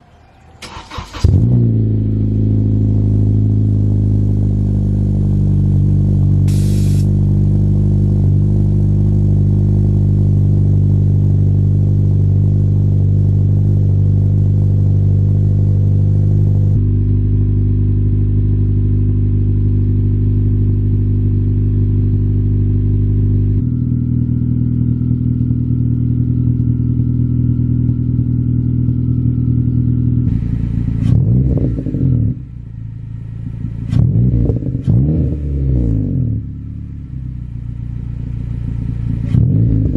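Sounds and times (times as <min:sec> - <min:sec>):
car engine starting and idling: 0:00.0 - 0:39.9.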